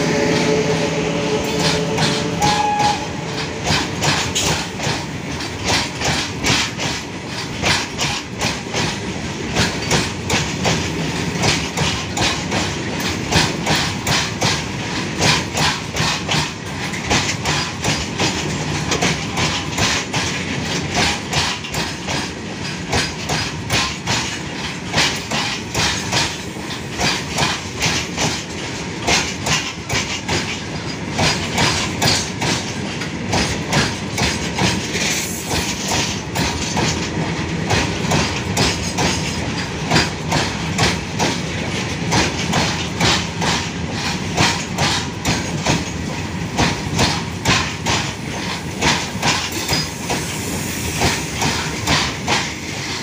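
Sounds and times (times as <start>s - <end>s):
freight train rumbling past: 0.0s - 53.0s
wheels clickety-clack on rail joints: 1.4s - 53.0s.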